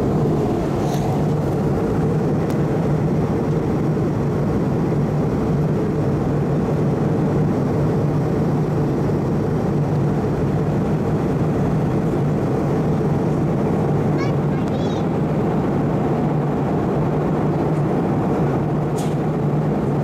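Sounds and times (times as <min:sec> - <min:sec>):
airliner engines droning: 0:00.0 - 0:20.0
constant low hum: 0:00.0 - 0:20.0.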